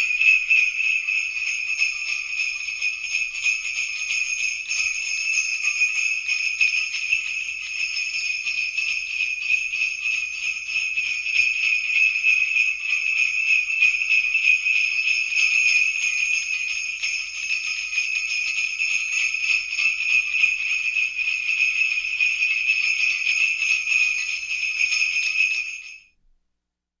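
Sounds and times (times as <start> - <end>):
sleigh bells jingling: 0.0 - 26.0.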